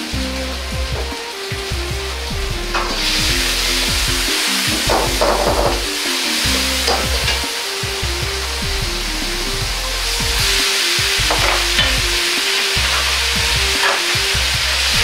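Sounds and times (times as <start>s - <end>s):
background music: 0.0s - 15.0s
food sizzling in a wok: 0.1s - 15.0s.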